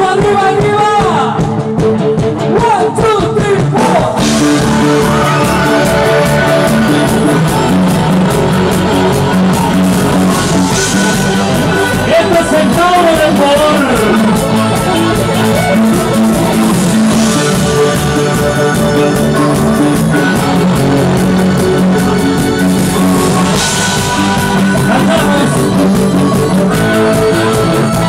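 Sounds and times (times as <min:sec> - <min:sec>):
bass guitar: 0:00.0 - 0:28.0
drums and cymbals: 0:00.0 - 0:28.0
electric guitar: 0:00.0 - 0:28.0
person singing: 0:02.8 - 0:28.0.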